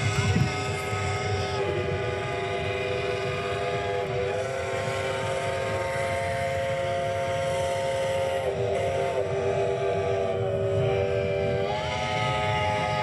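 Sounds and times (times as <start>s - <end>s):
locomotive horns chord: 0.0s - 13.0s.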